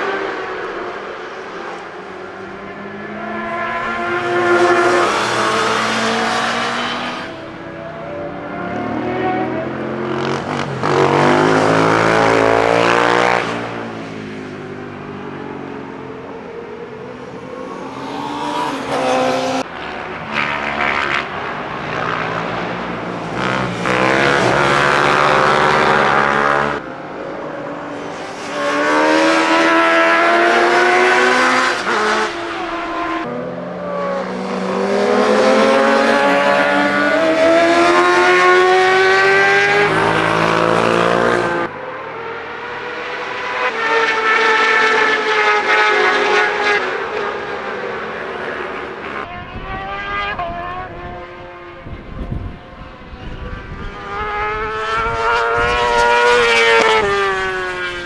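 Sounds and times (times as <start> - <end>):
racing motorcycles accelerating past: 2.7 - 15.4, 16.7 - 26.9, 28.0 - 58.0.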